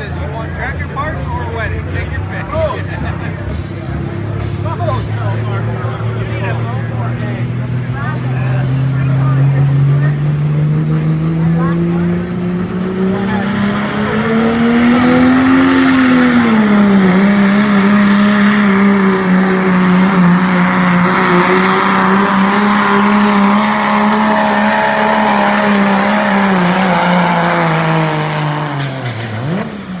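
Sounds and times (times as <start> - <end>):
diesel truck engine straining: 0.0 - 30.0.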